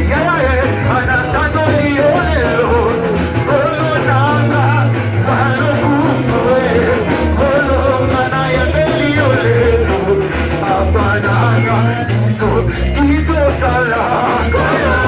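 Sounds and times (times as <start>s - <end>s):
band playing worship music: 0.0s - 15.0s
bass line: 0.0s - 15.0s
voices singing: 0.0s - 15.0s.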